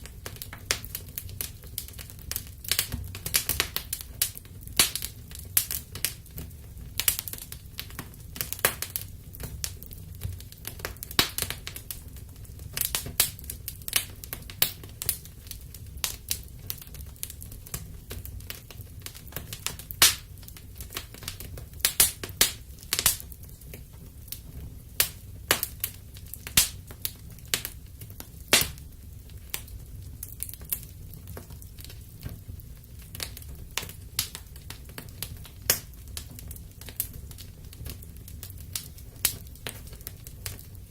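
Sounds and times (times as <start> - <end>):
low rumble of burning: 0.0 - 40.9
wood fire crackling and popping: 0.0 - 40.9.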